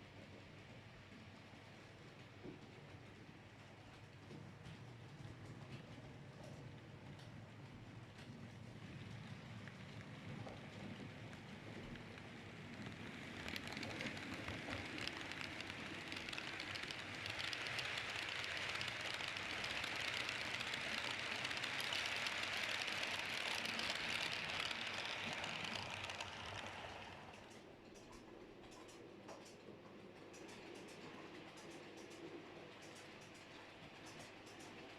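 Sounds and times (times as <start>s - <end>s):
model train rolling on track: 0.0s - 34.9s.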